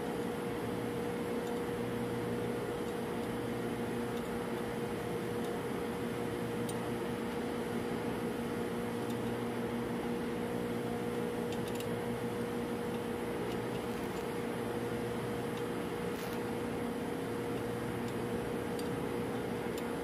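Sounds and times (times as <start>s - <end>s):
refrigeration machinery humming: 0.0s - 20.0s.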